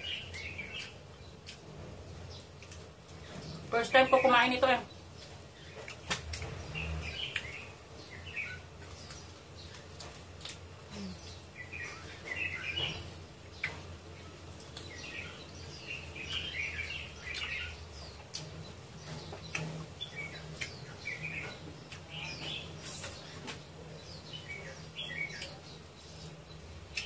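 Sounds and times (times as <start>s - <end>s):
chewing and smacking: 0.3s - 3.7s, 5.2s - 15.3s, 16.2s - 27.0s.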